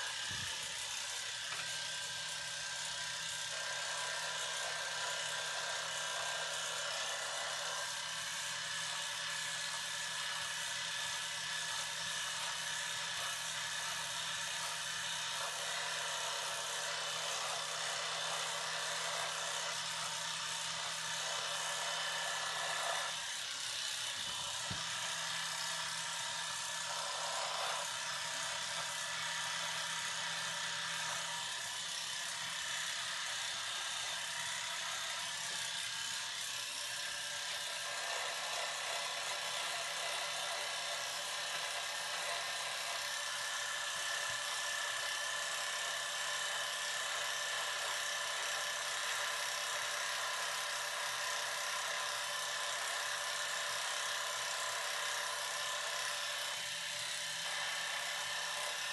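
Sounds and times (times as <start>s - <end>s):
electric hair clippers buzzing: 0.0s - 58.9s.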